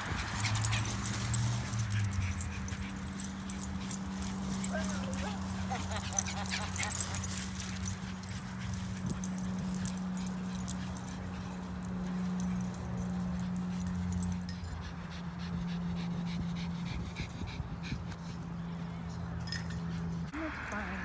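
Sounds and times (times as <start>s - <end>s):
dogs play-growling: 0.0s - 18.6s.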